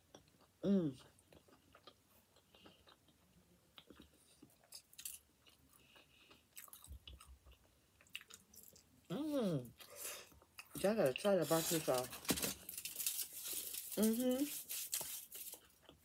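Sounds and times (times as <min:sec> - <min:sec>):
faint chewing of pizza: 0:00.0 - 0:12.2, 0:12.8 - 0:16.0.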